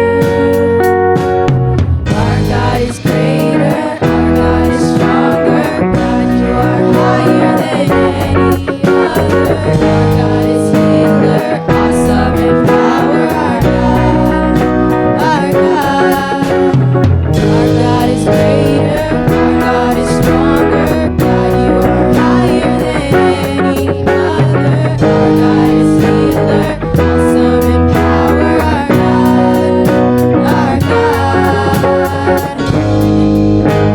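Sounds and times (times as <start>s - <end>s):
guitar: 0.0s - 33.9s
worship band playing: 0.0s - 33.9s.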